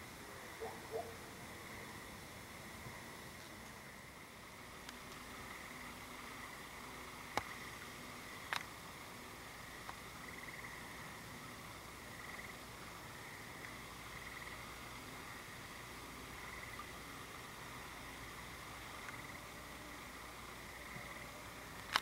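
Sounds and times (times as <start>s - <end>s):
frogs trilling: 0.2s - 2.2s, 5.3s - 21.7s.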